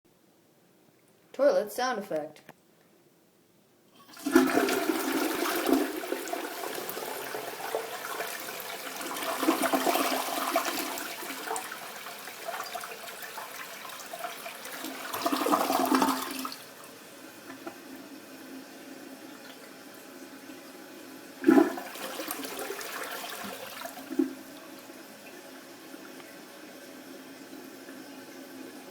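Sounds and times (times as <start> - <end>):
toilet flushing: 4.0 - 28.9.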